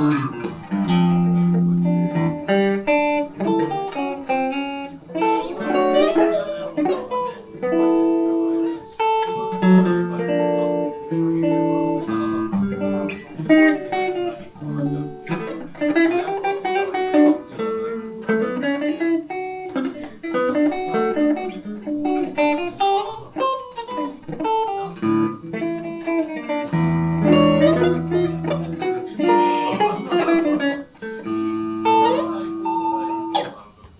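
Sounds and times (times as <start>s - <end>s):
clean electric guitar blues lead: 0.0s - 33.9s.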